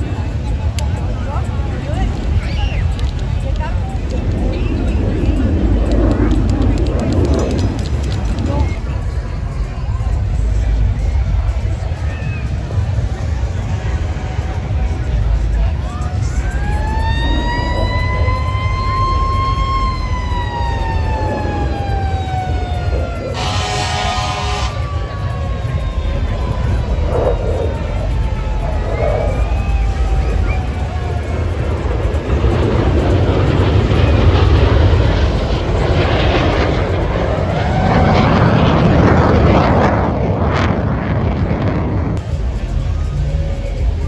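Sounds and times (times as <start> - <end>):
jet aircraft flying past: 0.0 - 44.0
low rumble: 0.0 - 44.0
siren wailing: 1.4 - 8.8, 12.4 - 42.0.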